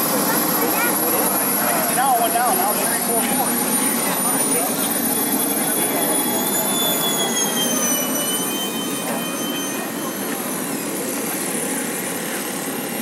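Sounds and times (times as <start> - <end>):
jet turbine engines whining: 0.0 - 13.0.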